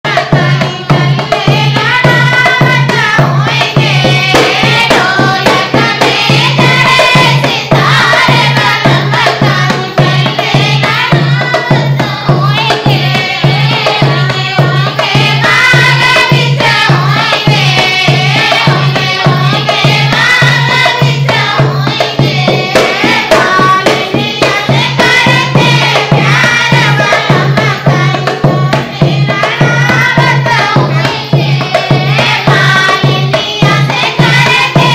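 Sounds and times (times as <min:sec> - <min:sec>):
steady drum beat: 0:00.1 - 0:34.9.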